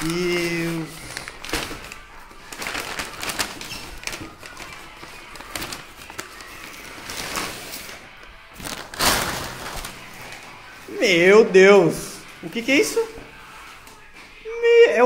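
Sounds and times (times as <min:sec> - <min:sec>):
plastic and paper rustling: 0:00.0 - 0:14.4.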